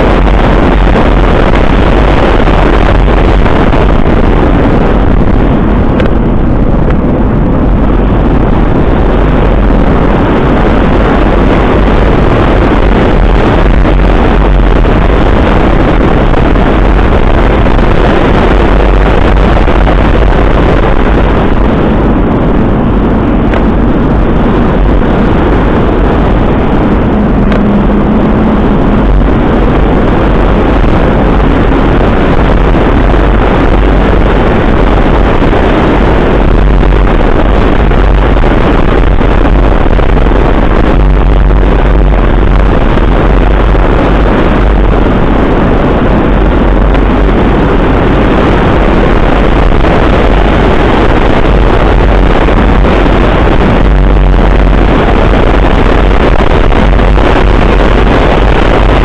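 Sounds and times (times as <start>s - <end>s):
deep rumble: 0.0s - 59.0s
wind buffeting microphone: 0.0s - 59.0s.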